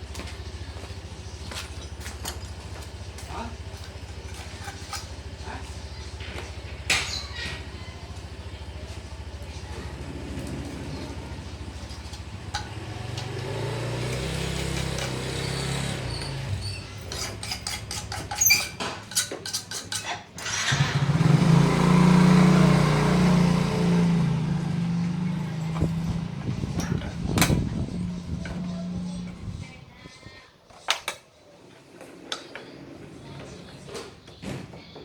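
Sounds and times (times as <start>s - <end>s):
motorcycle engine idling and revving: 0.0s - 19.2s, 20.4s - 30.0s.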